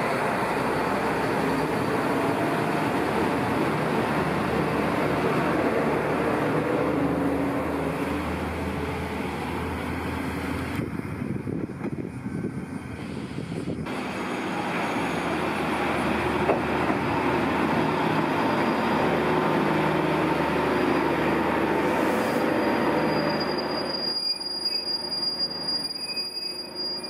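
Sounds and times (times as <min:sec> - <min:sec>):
diesel train engine and wheels: 0:00.0 - 0:27.0.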